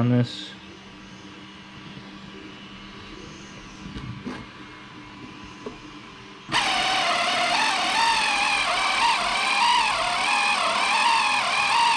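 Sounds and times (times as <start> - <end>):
electric motor high whine: 0.7 - 11.9.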